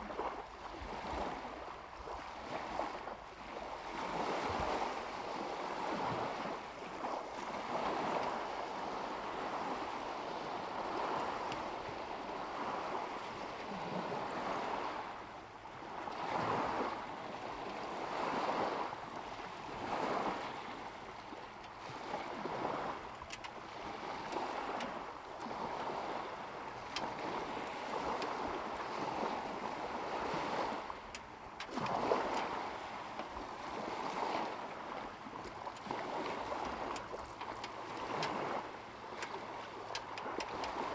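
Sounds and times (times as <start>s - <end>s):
lake waves lapping on shore: 0.0s - 40.9s.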